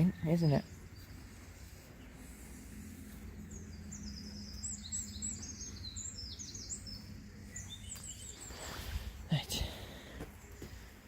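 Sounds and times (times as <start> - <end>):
small bird chirping: 0.0 - 9.7
low background rumble: 0.0 - 11.0.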